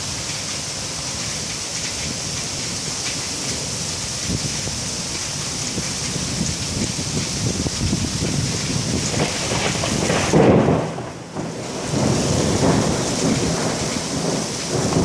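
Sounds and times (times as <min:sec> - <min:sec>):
heavy rain pouring: 0:00.0 - 0:15.0
thunder rumble: 0:01.2 - 0:15.0.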